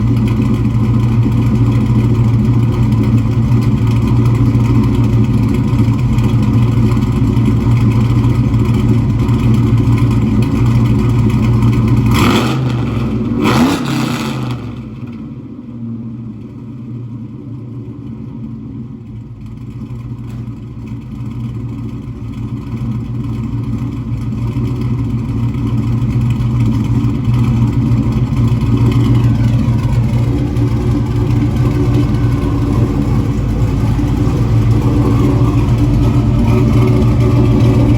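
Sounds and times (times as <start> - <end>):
car engine idling and revving: 0.0 - 37.9.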